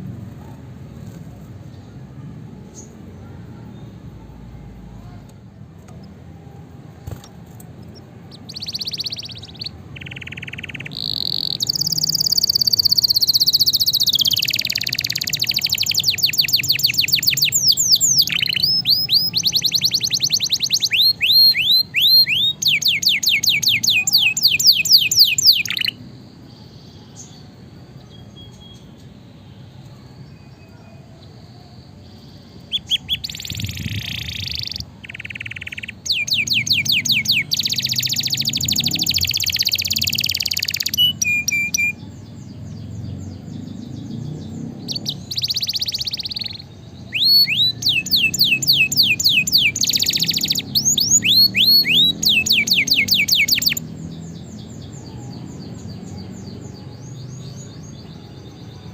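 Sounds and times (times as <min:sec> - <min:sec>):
canary singing fast trills: 0:00.0 - 0:58.9.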